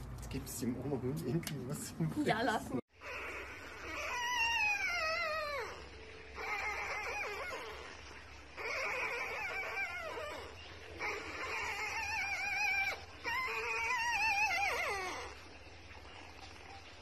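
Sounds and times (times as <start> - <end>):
puppy crying: 2.9 - 17.0.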